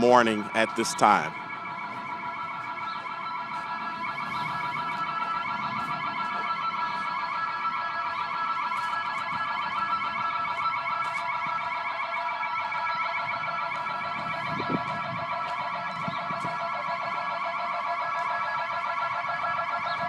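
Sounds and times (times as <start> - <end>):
warbling alarm siren: 0.0 - 20.0.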